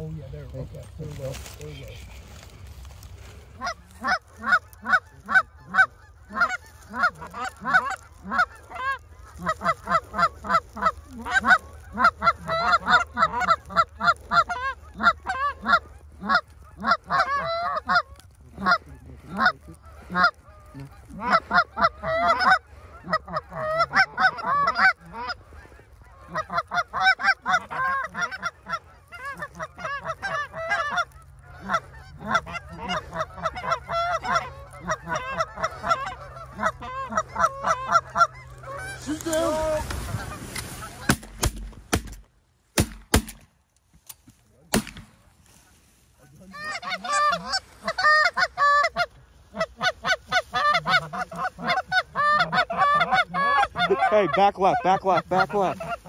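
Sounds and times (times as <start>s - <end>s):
geese honking: 0.0s - 41.5s, 44.7s - 56.0s.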